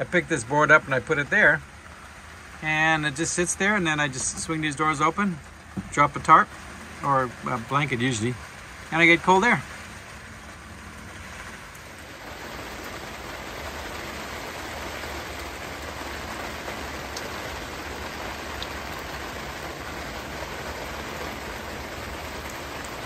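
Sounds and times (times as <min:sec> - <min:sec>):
rain on tarp and water: 0:00.0 - 0:23.0.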